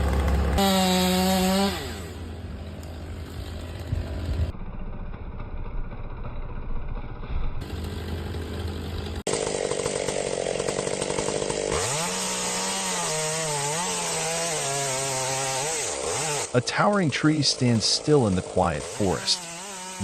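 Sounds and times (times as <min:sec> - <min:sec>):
chainsaw cutting wood: 0:00.0 - 0:06.2, 0:06.9 - 0:20.0.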